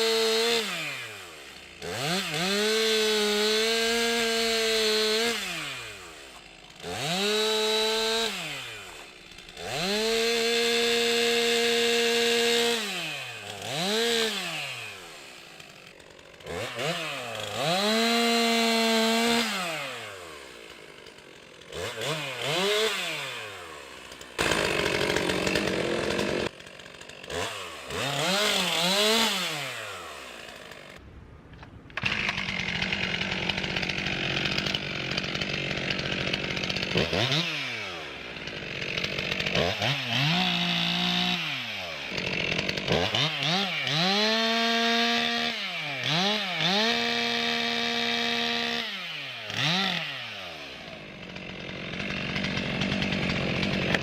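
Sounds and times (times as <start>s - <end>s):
chainsaw revving: 0.0s - 31.0s, 32.0s - 54.0s.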